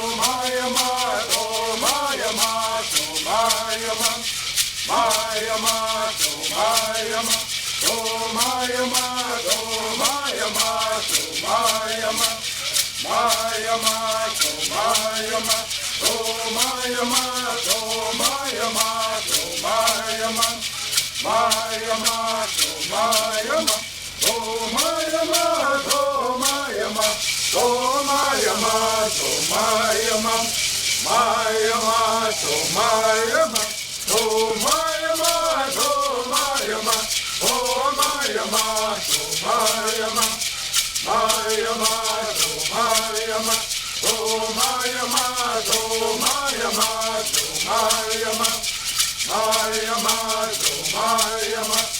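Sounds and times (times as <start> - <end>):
gourd rattles shaken: 0.0 - 51.9
voices singing in unison: 0.0 - 51.9.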